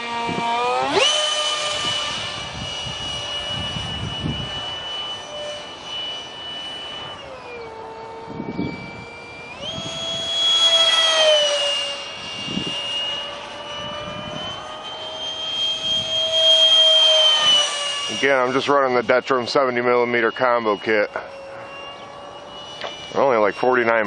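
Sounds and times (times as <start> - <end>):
electric ducted fan whining: 0.0 - 24.0.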